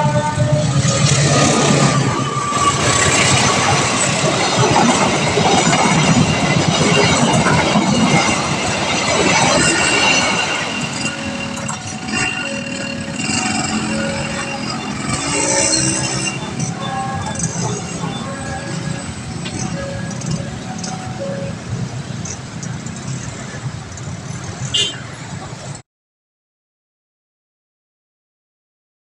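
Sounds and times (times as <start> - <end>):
train wheels rumbling on rails: 0.0 - 25.7.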